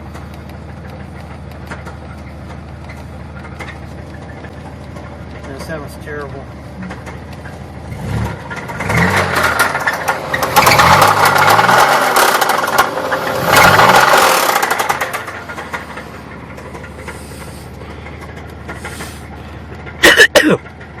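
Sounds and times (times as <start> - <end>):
car engine revving and idling: 0.0 - 21.0
engine knocking: 0.0 - 21.0.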